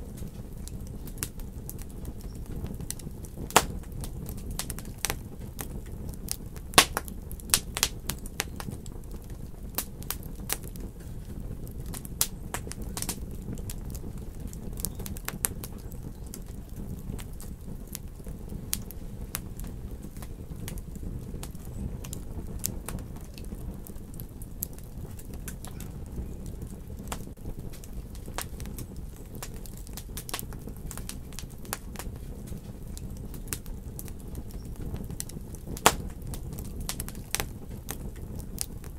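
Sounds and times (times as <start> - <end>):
fire popping and snapping: 0.0 - 38.9
wood fire crackling: 0.0 - 38.9.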